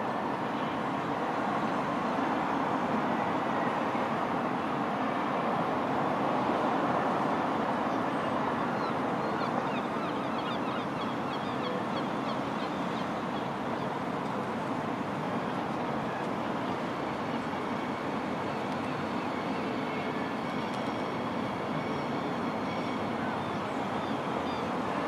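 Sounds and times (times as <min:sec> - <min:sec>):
railway: 0:00.0 - 0:25.0.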